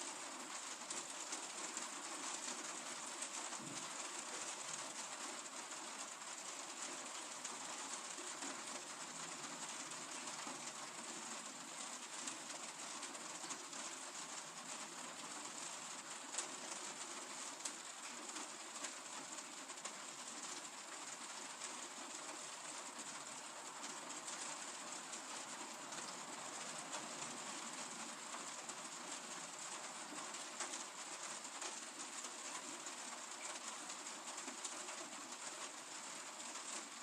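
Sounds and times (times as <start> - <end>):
steady rain falling: 0.0 - 37.0
raindrop ticks: 0.5 - 37.0.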